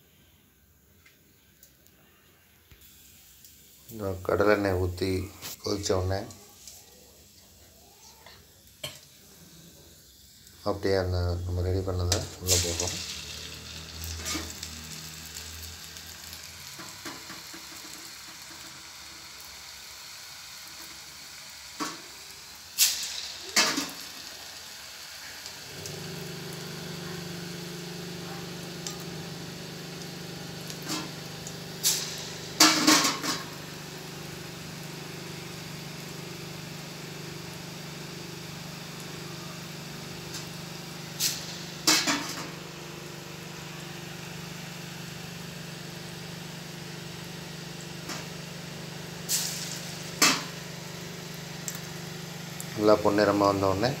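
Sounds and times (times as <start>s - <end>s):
food sizzling in hot oil: 2.8s - 54.0s.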